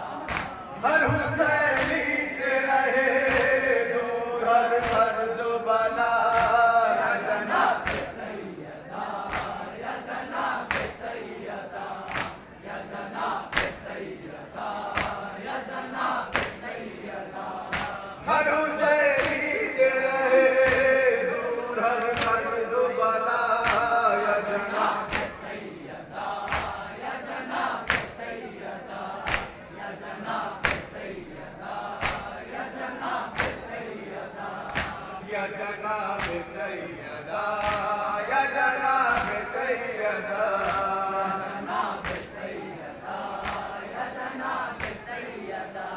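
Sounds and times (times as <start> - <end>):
men chanting in unison: 0.0 - 45.9
rhythmic chest-beating slaps: 0.0 - 45.9.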